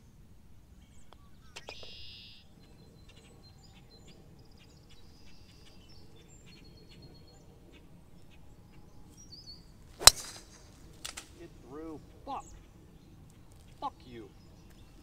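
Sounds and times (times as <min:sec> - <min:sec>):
small birds chirping: 0:00.0 - 0:15.0
low outdoor rumble: 0:02.4 - 0:15.0.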